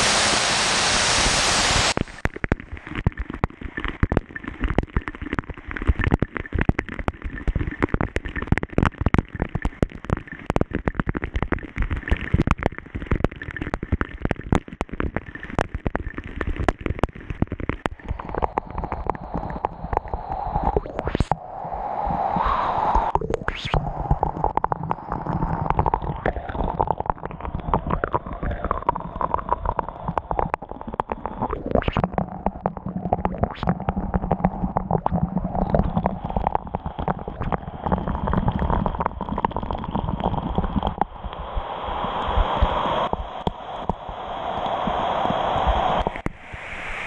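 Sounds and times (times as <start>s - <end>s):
water splashing and gurgling: 0.0s - 47.0s.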